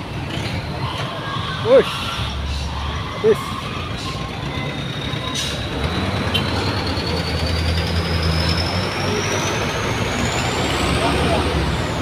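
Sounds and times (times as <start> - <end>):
truck diesel engine driving past: 1.9 - 12.0.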